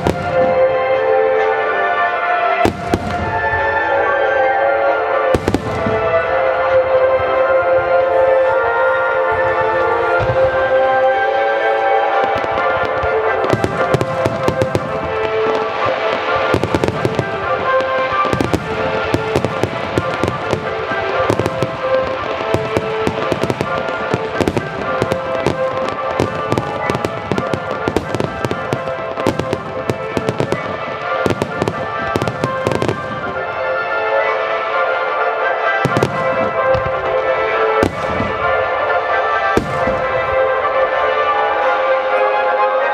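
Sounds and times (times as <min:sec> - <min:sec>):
fireworks bursting: 0:00.0 - 0:42.9
music over loudspeakers: 0:00.0 - 0:42.9.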